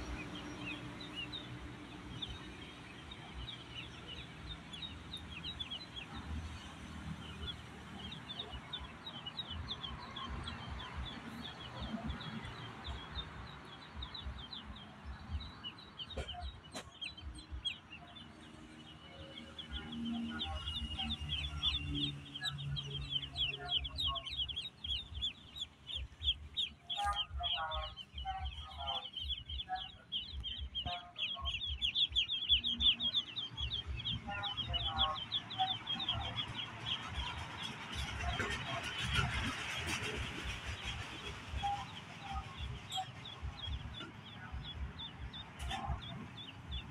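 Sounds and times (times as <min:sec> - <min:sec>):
ducklings peeping: 0:00.0 - 0:46.9.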